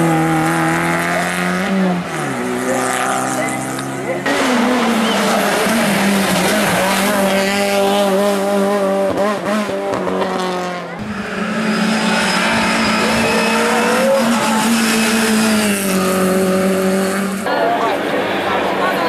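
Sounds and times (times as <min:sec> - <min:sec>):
race car engine at high revs: 0:00.0 - 0:19.0.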